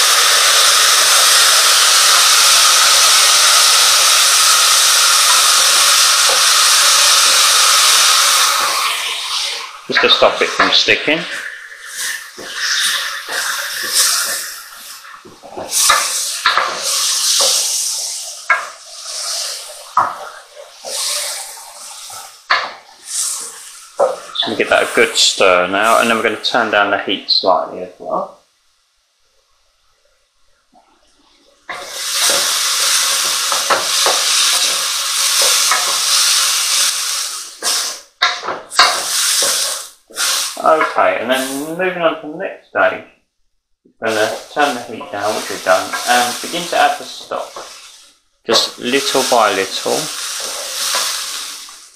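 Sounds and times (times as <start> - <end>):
rice sizzling and bubbling in a pan: 0.0 - 27.0, 28.0 - 41.8, 44.0 - 51.9.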